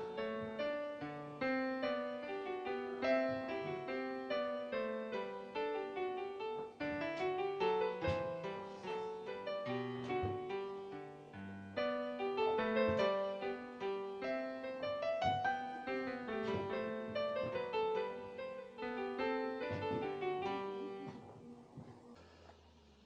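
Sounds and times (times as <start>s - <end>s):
piano music: 0.0s - 22.1s.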